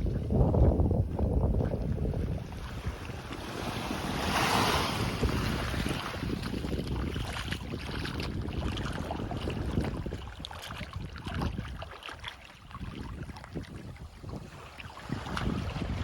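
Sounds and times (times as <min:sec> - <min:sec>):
wind rumble on microphone: 0:00.0 - 0:16.0
sea waves washing onto beach: 0:01.8 - 0:16.0.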